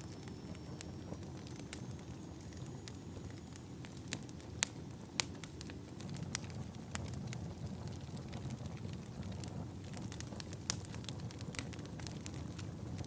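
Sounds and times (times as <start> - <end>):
low rumble of burning logs: 0.0 - 13.0
wood fire crackling: 0.0 - 13.0.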